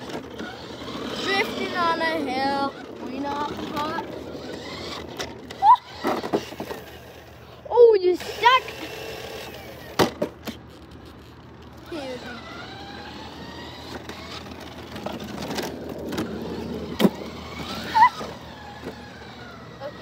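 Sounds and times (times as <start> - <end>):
electric motor whining: 0.0 - 20.0
small wheels rolling on concrete: 0.0 - 20.0.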